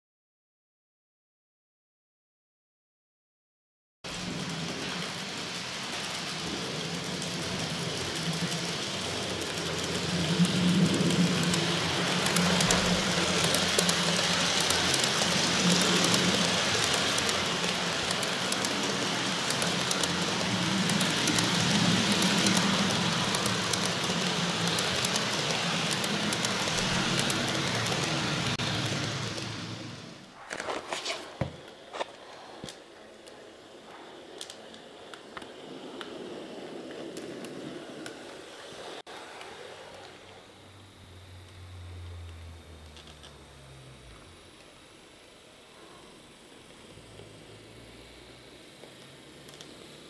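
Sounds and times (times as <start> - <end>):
wheels clicking over track: 4.1 - 45.4, 46.0 - 50.0
model train rolling on track: 4.1 - 50.0.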